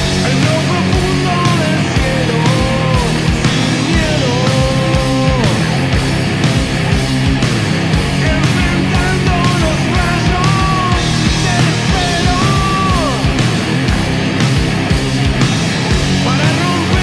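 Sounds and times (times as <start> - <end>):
rock band playing loudly: 0.0 - 17.0.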